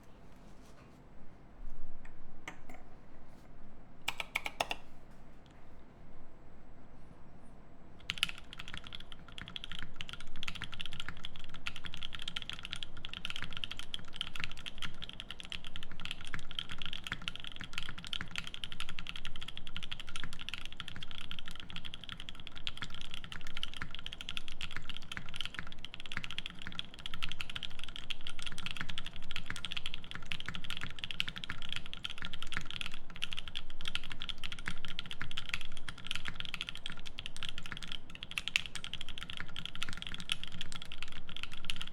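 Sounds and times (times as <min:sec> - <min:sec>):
fast typing on mechanical keyboard: 0:04.1 - 0:04.8, 0:08.1 - 0:41.9.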